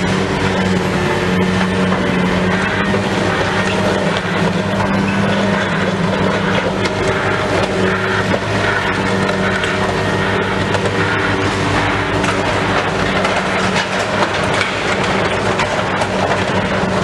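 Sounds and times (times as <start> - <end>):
diesel demolition machinery humming: 0.0 - 17.0
metal clanks and knocks: 0.0 - 17.0.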